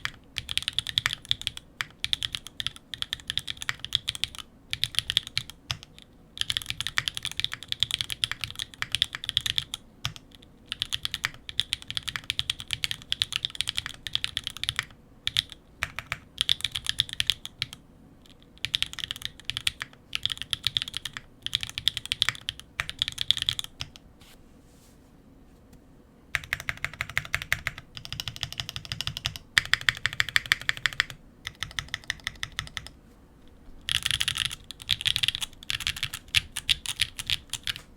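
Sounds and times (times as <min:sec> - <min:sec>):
mechanical keyboard typing: 0:00.0 - 0:24.0, 0:26.3 - 0:33.0, 0:33.8 - 0:37.9.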